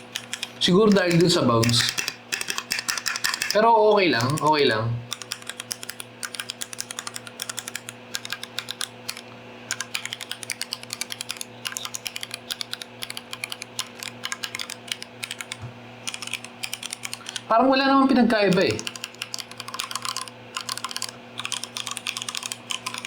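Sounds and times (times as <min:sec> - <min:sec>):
mechanical keyboard typing: 0:00.0 - 0:23.0.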